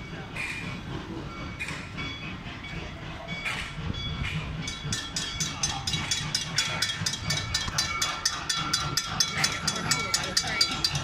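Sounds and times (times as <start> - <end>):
railroad crossing bell ringing: 0.0 - 11.0.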